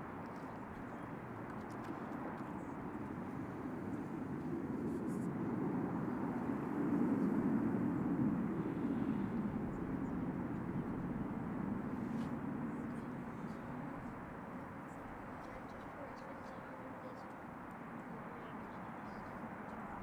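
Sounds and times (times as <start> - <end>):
jet aircraft roar overhead: 0.0 - 20.0.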